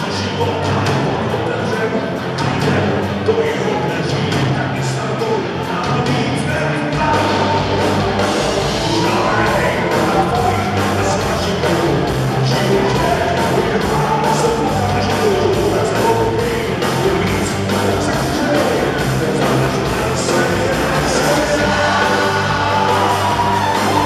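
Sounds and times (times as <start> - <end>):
drums keeping a steady beat: 0.0 - 24.0
live rock band playing: 0.0 - 24.0.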